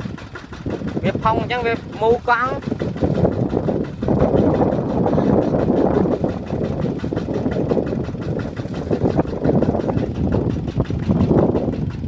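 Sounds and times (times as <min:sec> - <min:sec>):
diesel engine knocking hard: 0:00.0 - 0:12.0.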